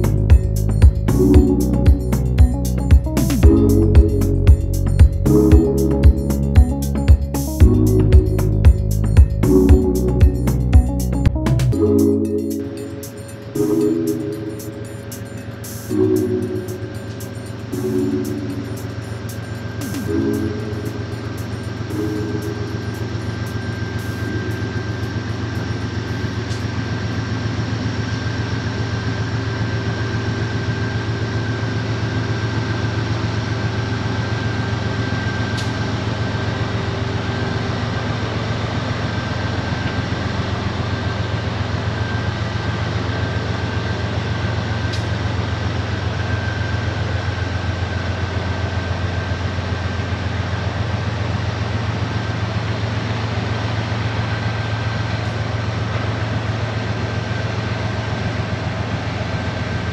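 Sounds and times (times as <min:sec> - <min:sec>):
locomotive engine drone: 0:00.0 - 0:59.9
thin constant whine: 0:00.0 - 0:59.9.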